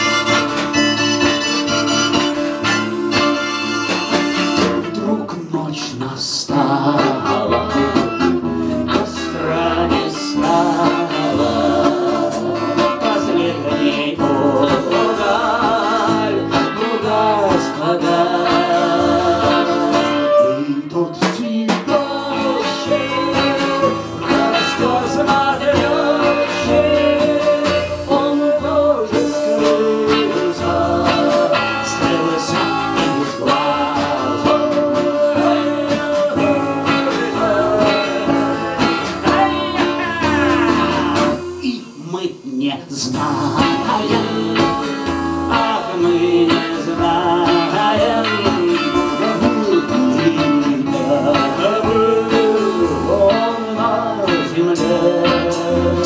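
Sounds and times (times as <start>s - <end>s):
electric bass: 0.0s - 20.7s, 21.9s - 42.2s, 43.0s - 56.0s
strummed acoustic guitar: 0.0s - 42.0s, 43.1s - 56.0s
person singing: 0.0s - 42.3s, 42.9s - 56.0s
drums: 0.0s - 56.0s.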